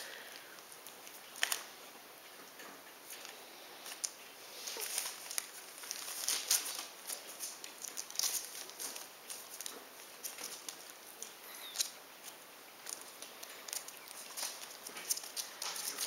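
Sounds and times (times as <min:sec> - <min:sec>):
paper rustling under paws: 0:03.0 - 0:16.0.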